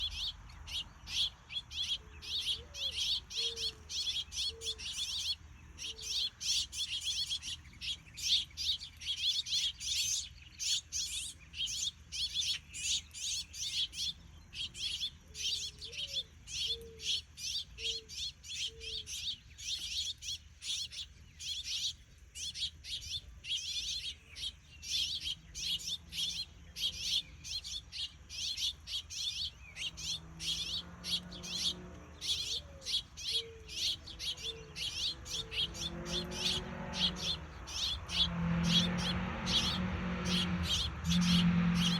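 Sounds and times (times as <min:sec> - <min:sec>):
finches chirping: 0:00.0 - 0:41.9.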